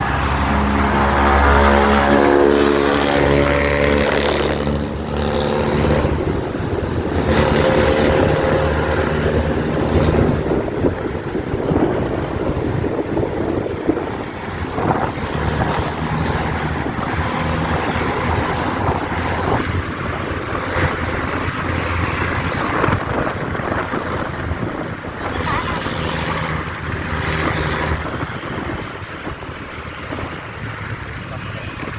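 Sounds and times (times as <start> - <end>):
bus loud exhaust rasping: 0.0 - 29.6.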